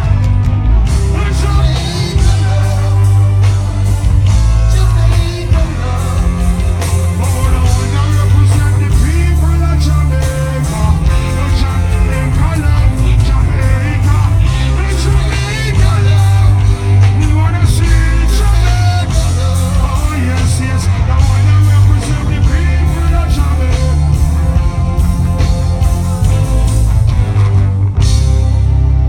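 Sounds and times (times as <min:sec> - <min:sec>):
loud music with heavy bass: 0:00.0 - 0:29.0
person singing: 0:00.9 - 0:25.9.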